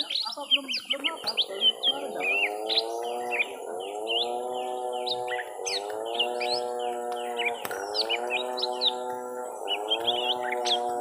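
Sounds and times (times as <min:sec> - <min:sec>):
birds chirping and whistling: 0:00.0 - 0:11.0
low droning tone: 0:01.1 - 0:11.0.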